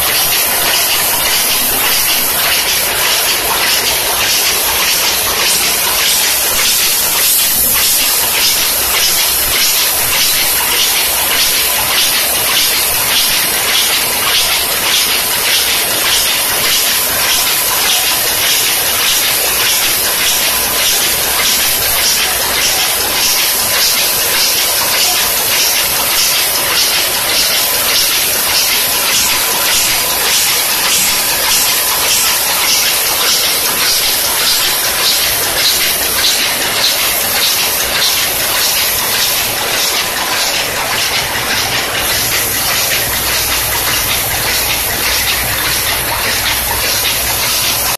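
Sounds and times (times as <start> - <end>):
packing machine clattering: 0.0 - 47.9.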